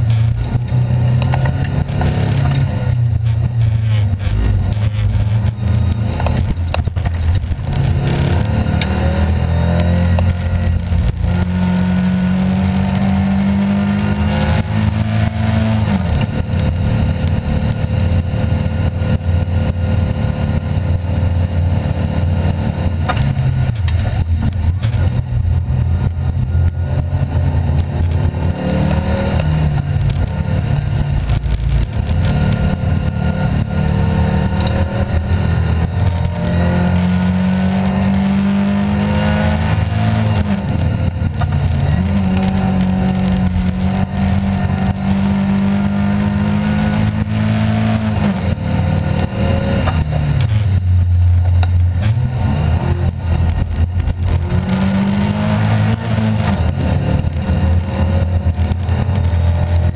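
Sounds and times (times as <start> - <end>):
car engine revving: 0.0 - 59.9
road and tyre noise: 0.0 - 59.9.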